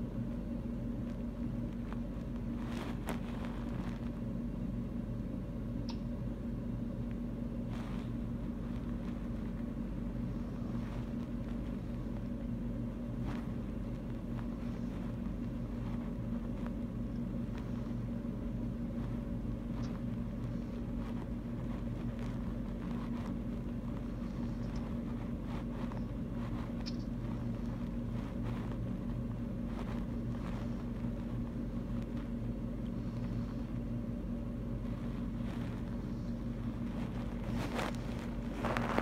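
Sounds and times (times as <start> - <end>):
low background hum: 0.0 - 39.0.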